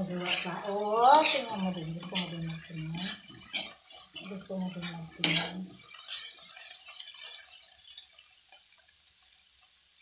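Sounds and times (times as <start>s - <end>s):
metal spatula scraping a wok: 0.0s - 8.2s.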